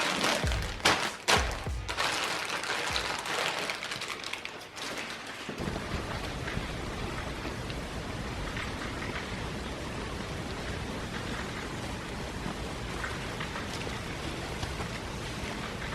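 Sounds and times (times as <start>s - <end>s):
raindrops ticking: 0.0s - 15.9s
steady rain falling: 0.0s - 15.9s.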